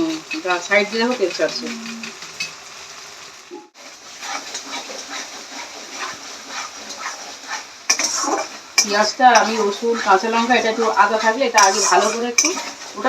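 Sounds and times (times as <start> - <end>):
paste sizzling in oil: 0.0 - 13.0.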